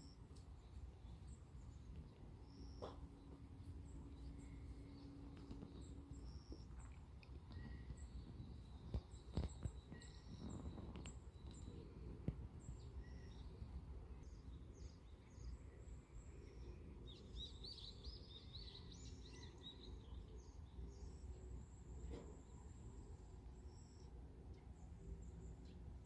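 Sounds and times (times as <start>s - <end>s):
birds chirping: 0.0s - 26.0s
low outdoor rumble: 0.0s - 26.0s.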